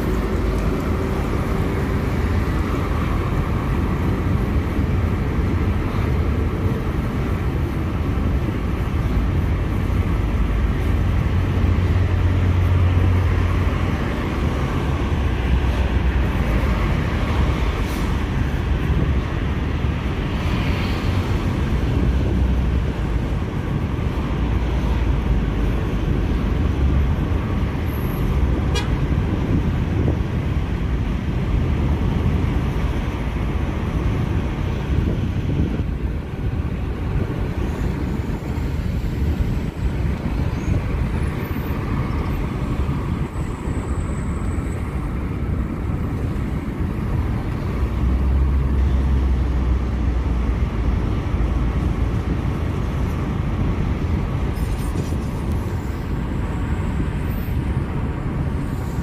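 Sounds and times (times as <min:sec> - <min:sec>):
car cabin road noise: 0:00.0 - 0:59.0.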